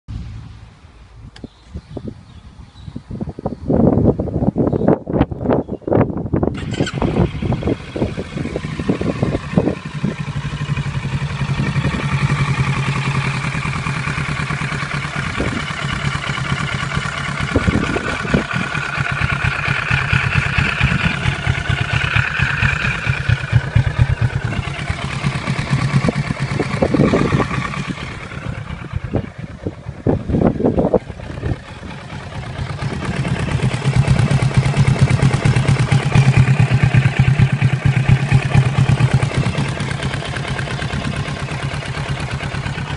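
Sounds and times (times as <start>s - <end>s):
motorcycle engine idling: 6.5s - 42.9s.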